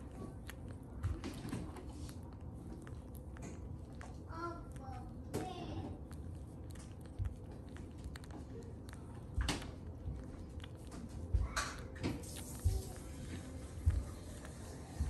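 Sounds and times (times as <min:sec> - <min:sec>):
puppies sucking fingers: 0:00.0 - 0:15.0.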